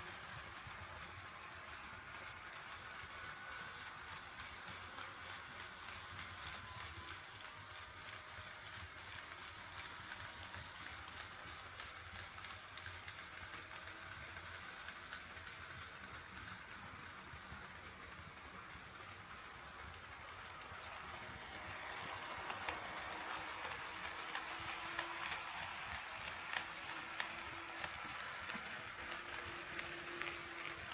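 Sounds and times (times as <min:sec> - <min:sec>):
model train wheels rattling on track: 0:00.0 - 0:30.9.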